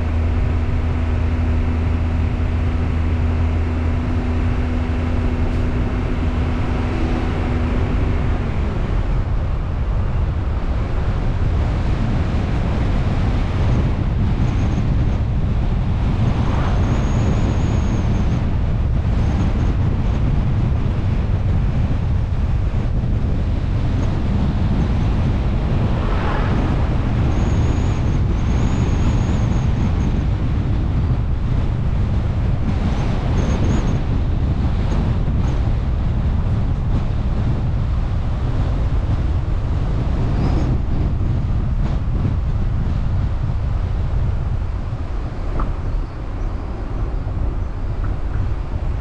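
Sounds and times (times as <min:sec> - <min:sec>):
car engine drone: 0:00.0 - 0:49.0
tyre road rumble: 0:00.0 - 0:49.0.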